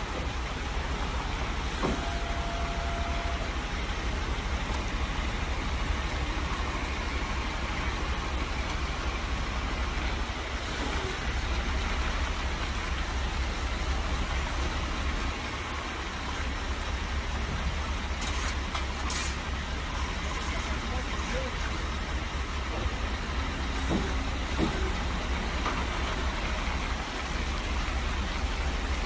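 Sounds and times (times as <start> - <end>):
motor vehicle running: 0.0 - 29.0.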